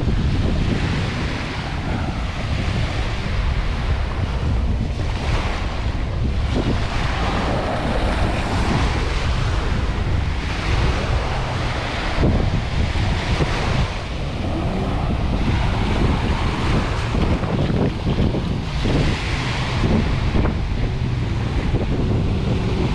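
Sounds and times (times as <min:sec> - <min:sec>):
sea waves washing onto beach: 0:00.0 - 0:22.9
wind buffeting microphone: 0:00.0 - 0:22.9.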